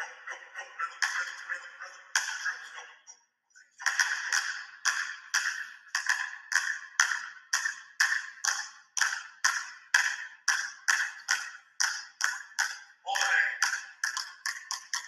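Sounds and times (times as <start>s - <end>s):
basketballs bouncing on gym floor: 1.0s - 2.7s, 3.8s - 15.0s.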